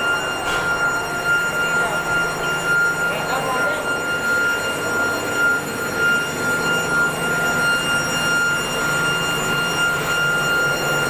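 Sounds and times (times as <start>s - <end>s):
furnace air blower whining: 0.0s - 11.0s.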